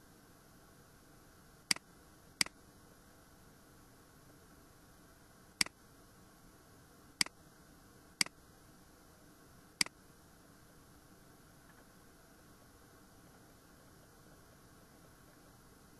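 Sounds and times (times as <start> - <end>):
faint steady hiss: 0.0 - 15.9.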